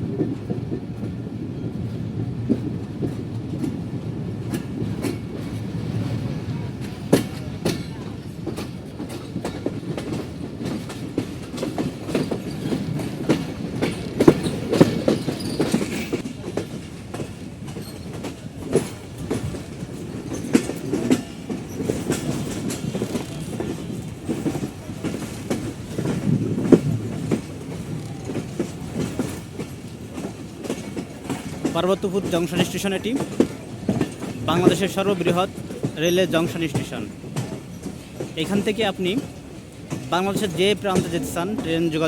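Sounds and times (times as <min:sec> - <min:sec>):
train wheels rumbling: 0:00.0 - 0:42.0
wheels clacking over rail joints: 0:00.0 - 0:42.0.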